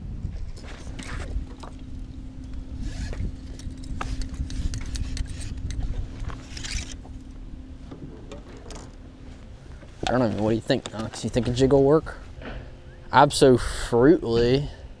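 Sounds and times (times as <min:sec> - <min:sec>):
wind rumble on microphone: 0:00.0 - 0:12.8
steady low hum: 0:00.0 - 0:15.0
fishing tackle rustling and scraping: 0:00.3 - 0:12.8.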